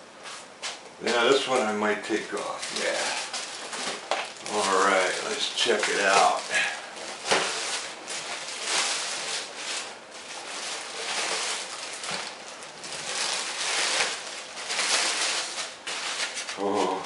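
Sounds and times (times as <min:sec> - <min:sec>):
plastic bag crinkling: 0:01.2 - 0:17.0.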